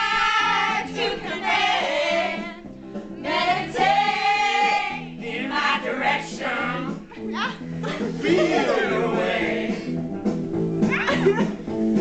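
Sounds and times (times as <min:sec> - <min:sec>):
women singing karaoke: 0:00.0 - 0:09.9
karaoke backing track: 0:00.0 - 0:12.0.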